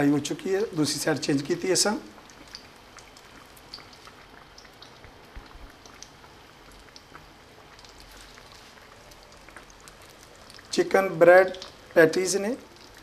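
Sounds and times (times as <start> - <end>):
patties frying in oil: 0.0 - 13.0.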